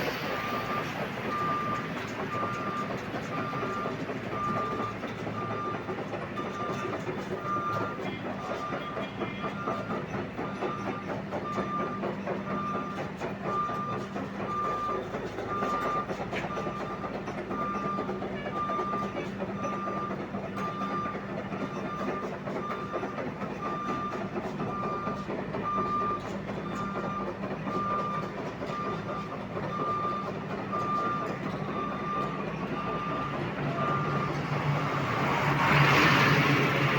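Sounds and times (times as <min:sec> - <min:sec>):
excavator engine hum: 0:00.0 - 0:36.9
reversing alarm beeping: 0:00.0 - 0:36.9.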